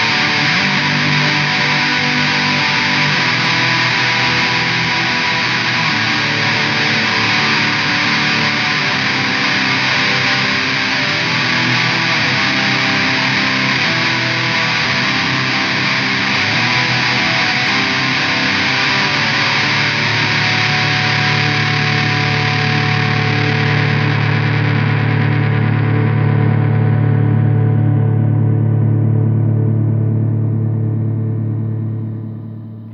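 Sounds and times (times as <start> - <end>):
distorted electric guitar riff: 0.0 - 32.9.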